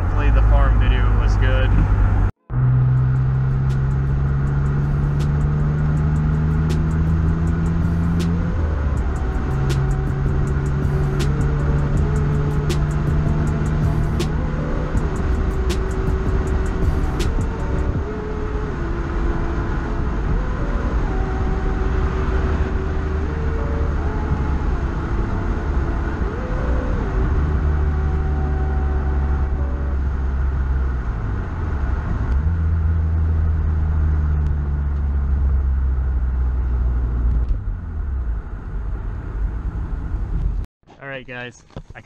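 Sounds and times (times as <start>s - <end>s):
car engine drone: 0.0s - 40.7s
road noise: 0.0s - 42.0s.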